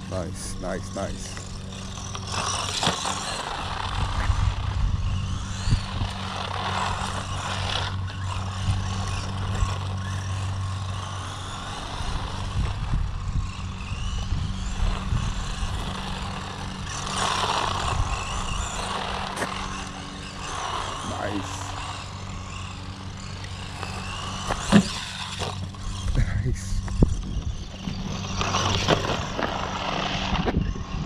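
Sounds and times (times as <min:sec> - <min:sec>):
steady low hum: 0:00.0 - 0:31.0
toy truck motor whirring: 0:00.0 - 0:31.0.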